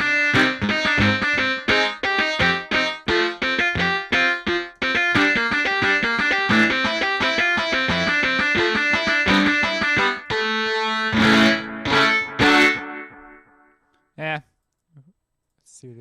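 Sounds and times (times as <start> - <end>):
keyboard notes and chords: 0.0 - 13.9.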